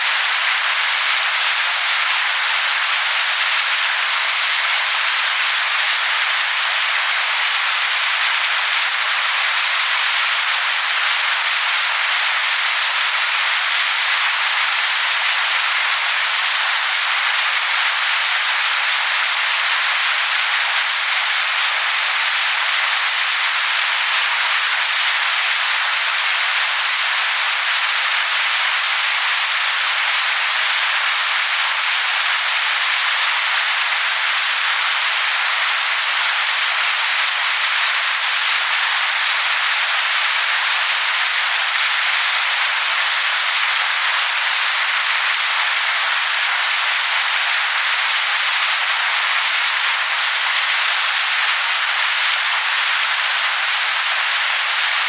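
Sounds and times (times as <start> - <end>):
waterfall pouring onto rocks: 0.0 - 55.0.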